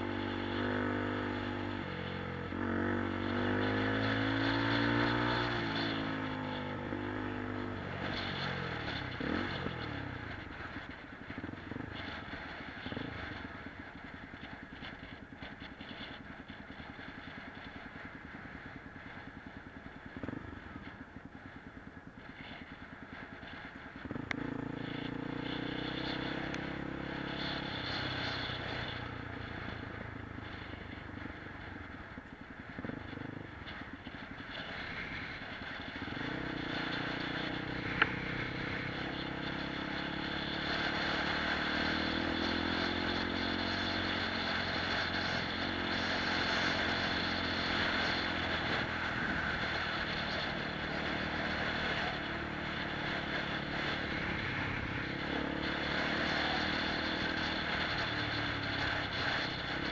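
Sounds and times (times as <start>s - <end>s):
motorcycle engine revving: 0.0s - 59.9s
tyres on dirt track: 0.0s - 59.9s.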